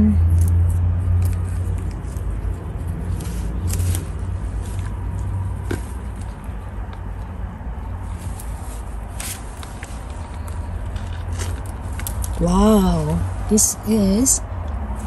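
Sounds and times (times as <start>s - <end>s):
low background rumble: 0.0s - 15.0s
rustling of foliage and soil: 0.2s - 15.0s.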